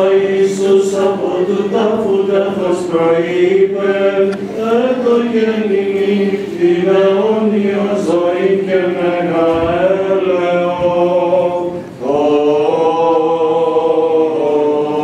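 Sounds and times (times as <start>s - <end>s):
chanters singing a hymn: 0.0s - 15.0s.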